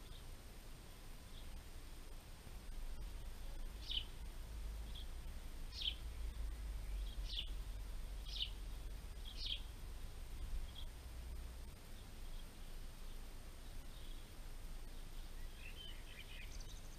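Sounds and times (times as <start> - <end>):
small bird chirping: 0.0 - 0.3, 1.2 - 1.6, 3.0 - 11.1, 11.7 - 16.9.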